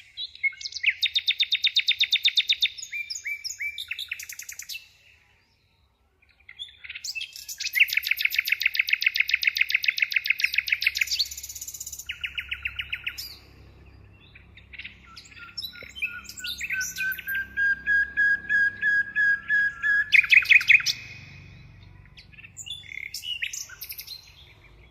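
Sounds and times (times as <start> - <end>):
songbird trilling and whistling: 0.0 - 5.0, 6.5 - 24.9.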